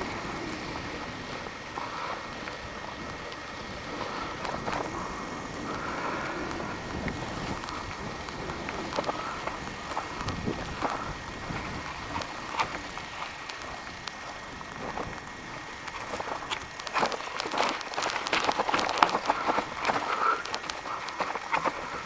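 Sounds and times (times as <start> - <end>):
bicycle rolling on dirt trail: 0.0 - 22.0
bike clicks and rattles: 0.0 - 22.0.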